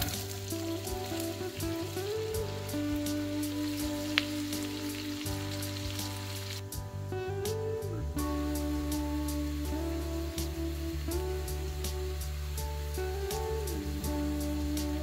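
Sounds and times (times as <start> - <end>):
onion sizzling in a frying pan: 0.0 - 6.8, 7.6 - 15.0.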